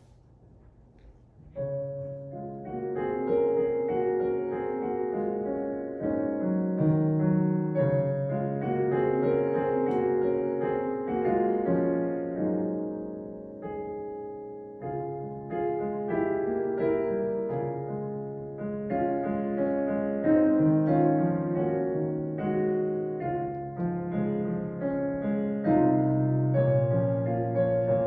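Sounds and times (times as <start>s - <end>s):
slow piano hymn: 0.0s - 28.0s.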